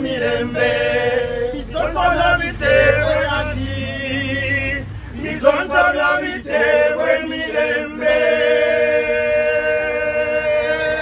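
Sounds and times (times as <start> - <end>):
men singing a cappella: 0.0 - 11.0.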